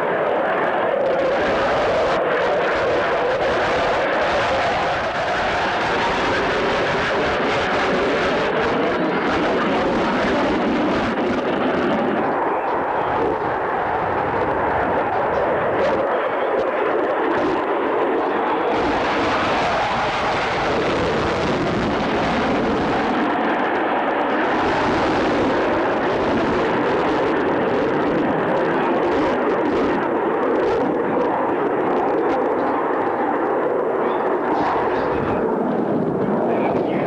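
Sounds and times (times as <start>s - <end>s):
aircraft engine noise: 0.0s - 37.0s.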